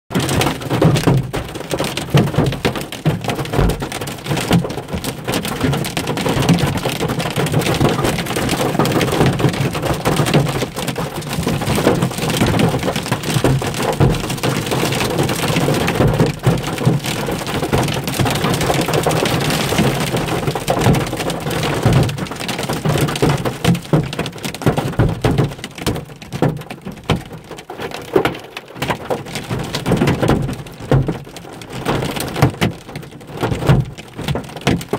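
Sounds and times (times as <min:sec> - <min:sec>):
hail and rain on car roof: 0:00.1 - 0:34.9.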